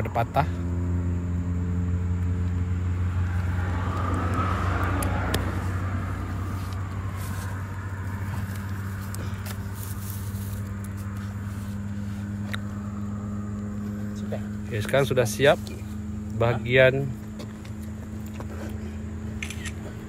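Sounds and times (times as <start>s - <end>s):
motor engine humming: 0.0s - 20.0s
vehicle passing: 0.0s - 20.0s.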